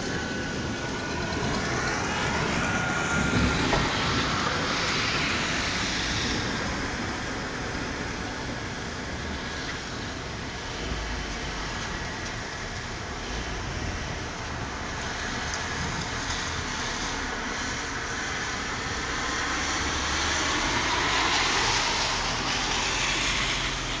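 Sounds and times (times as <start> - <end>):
rushing rain: 0.0 - 24.0.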